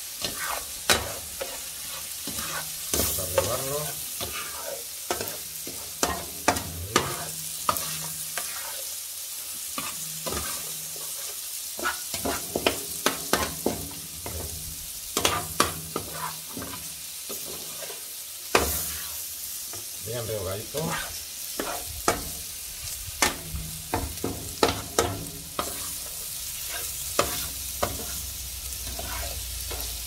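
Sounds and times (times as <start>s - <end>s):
rice sizzling in oil: 0.0s - 30.0s
metal spatula scraping pan: 0.2s - 9.0s, 9.8s - 14.5s, 15.2s - 19.2s, 20.6s - 22.3s, 23.2s - 30.0s.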